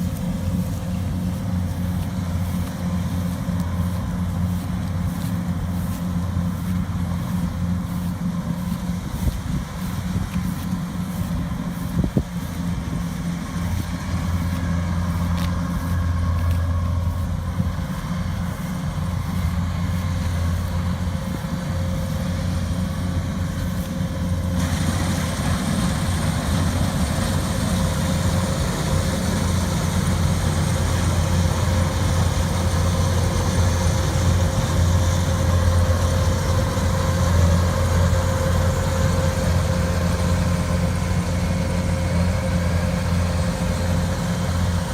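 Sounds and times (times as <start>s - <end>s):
combine harvester engine running: 0.0s - 44.9s.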